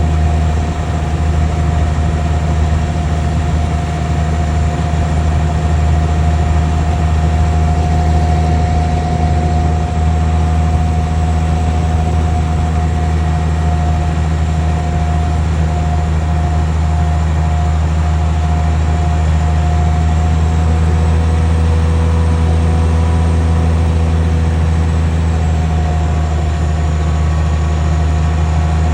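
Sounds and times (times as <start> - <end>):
jet engines low rumble and whine: 0.0 - 28.9.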